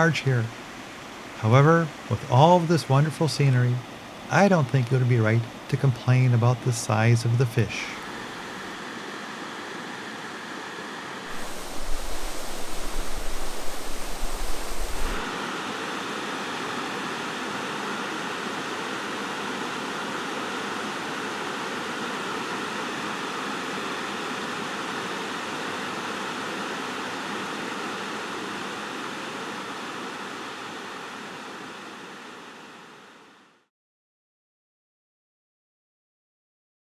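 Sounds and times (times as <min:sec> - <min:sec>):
stream rushing: 0:00.0 - 0:09.4, 0:10.9 - 0:32.9.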